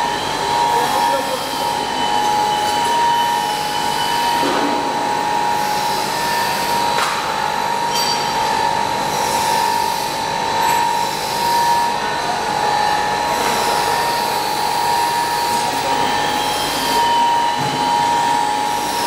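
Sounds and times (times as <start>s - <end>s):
machine running with high whine: 0.0s - 19.0s.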